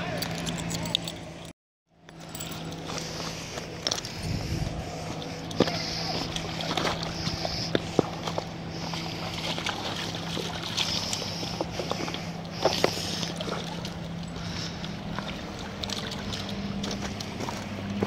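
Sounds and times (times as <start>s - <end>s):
steady low hum: 0.0s - 18.0s
water splashing and sloshing: 2.2s - 18.0s.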